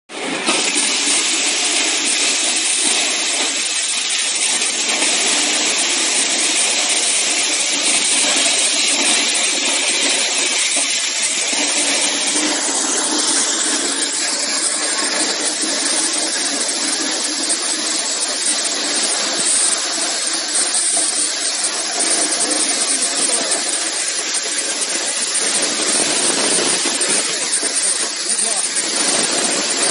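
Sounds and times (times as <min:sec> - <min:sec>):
electric corn sheller whirring: 0:00.1 - 0:29.9.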